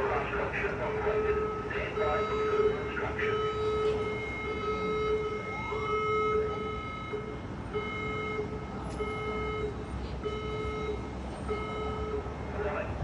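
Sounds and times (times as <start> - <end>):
buzzy fire alarm tone: 1.1 - 12.2.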